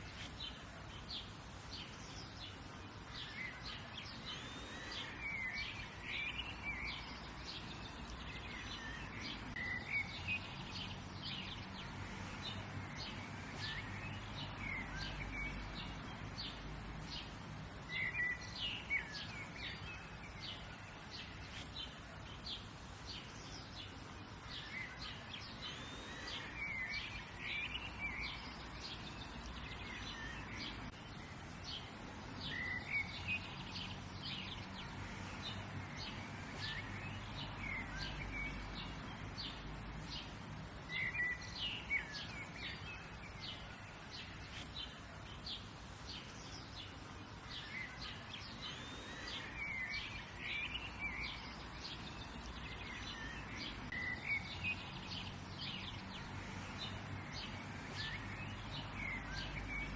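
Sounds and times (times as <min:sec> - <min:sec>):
low background noise: 0:00.0 - 0:59.9
songbirds chirping: 0:00.0 - 0:59.9.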